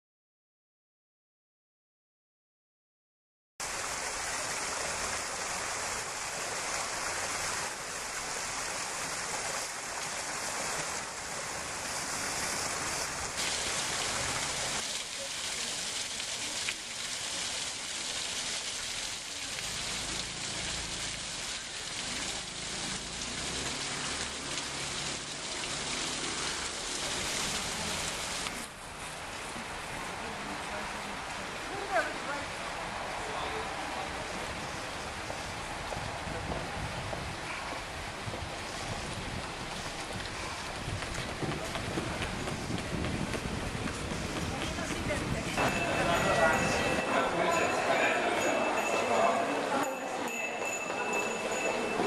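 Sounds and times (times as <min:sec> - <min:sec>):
fountain water splashing: 0:03.6 - 0:52.0.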